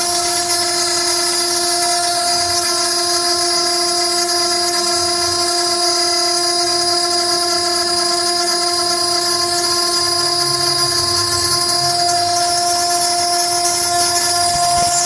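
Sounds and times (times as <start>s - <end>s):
high hiss of metal cutting: 0.0s - 15.0s
router spindle whine: 0.0s - 15.0s.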